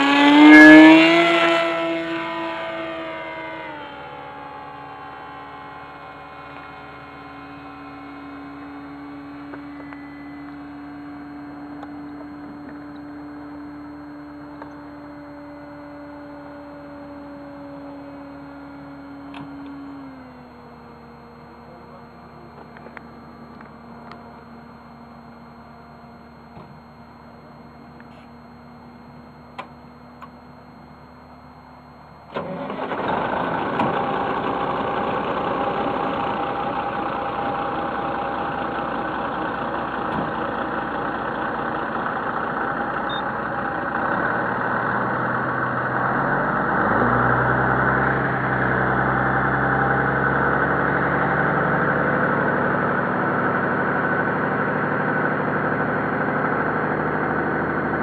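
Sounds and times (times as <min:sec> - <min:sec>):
vehicle engine starting and running: 0:00.0 - 0:58.0.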